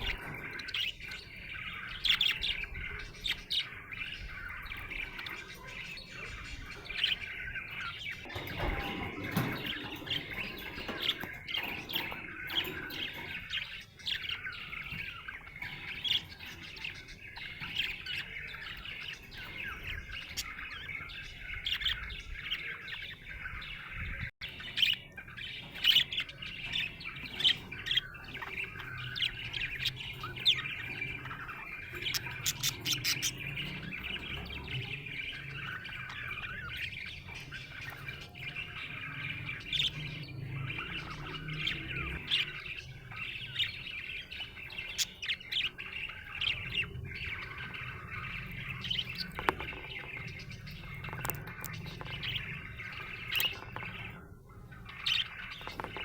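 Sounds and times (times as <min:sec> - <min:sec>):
budgerigar chirping and warbling: 0:00.0 - 0:56.0.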